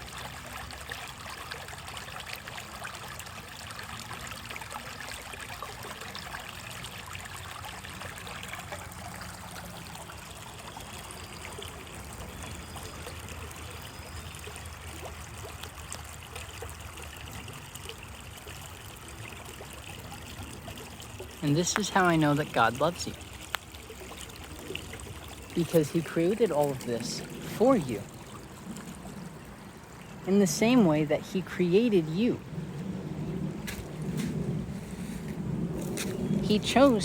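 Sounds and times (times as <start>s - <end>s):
stream trickling: 0.0s - 37.0s.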